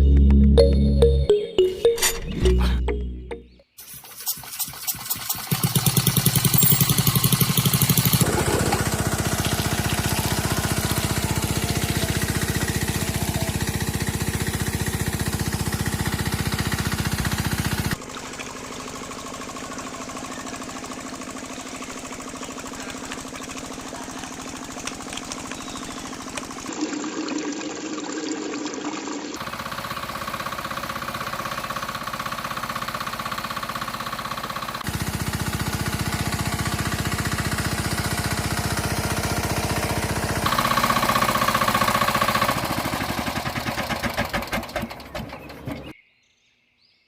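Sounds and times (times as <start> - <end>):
small engine knocking: 3.8 - 26.7, 29.4 - 45.9.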